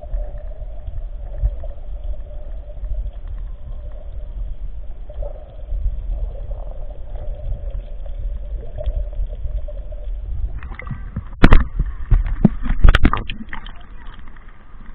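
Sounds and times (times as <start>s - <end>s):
underwater low rumble: 0.0s - 14.9s.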